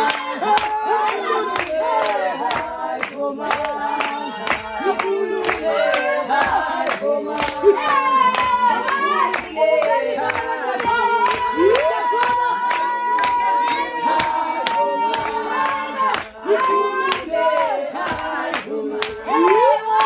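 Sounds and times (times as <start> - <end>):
group singing: 0.0 - 20.0
steady hand clapping: 0.0 - 20.0.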